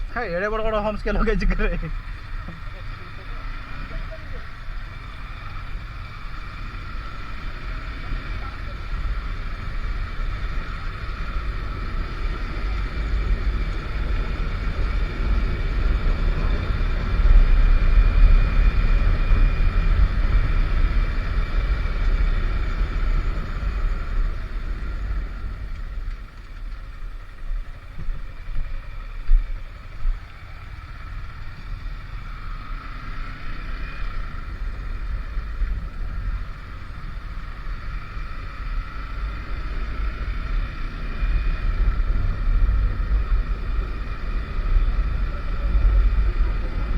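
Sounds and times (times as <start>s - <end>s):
motorcycle engine drone: 0.0s - 46.9s.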